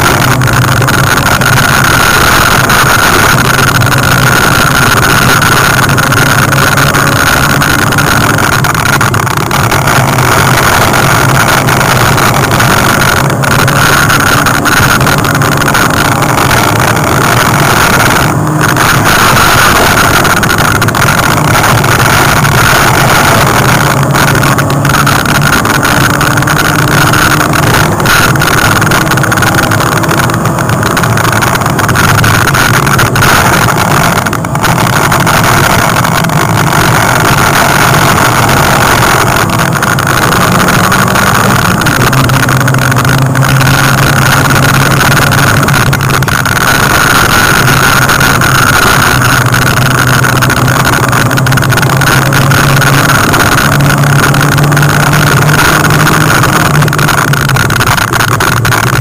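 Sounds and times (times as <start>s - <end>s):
rally car engine under load: 0.0s - 59.0s.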